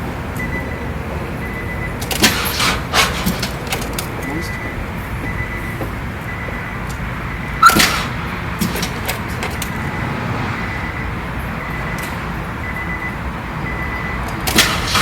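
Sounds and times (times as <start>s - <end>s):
vehicle running rumble: 0.0s - 15.0s.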